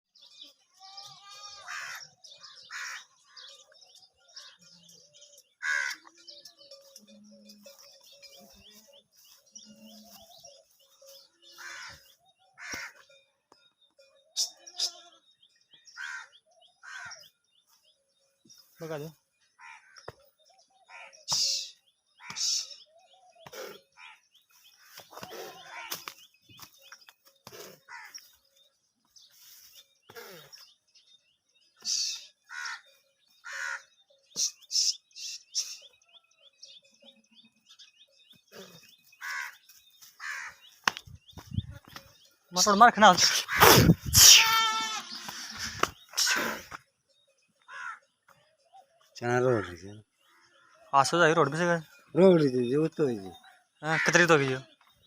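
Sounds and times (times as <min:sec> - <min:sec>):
birds chirping: 0:00.1 - 0:55.0
loud harsh bird calls: 0:00.2 - 0:07.0, 0:09.2 - 0:13.3, 0:13.9 - 0:28.6, 0:29.2 - 0:55.0.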